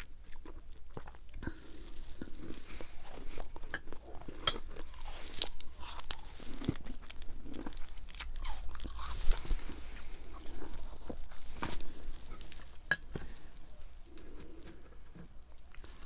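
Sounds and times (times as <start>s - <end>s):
person chewing ice crunches: 0.0s - 16.0s.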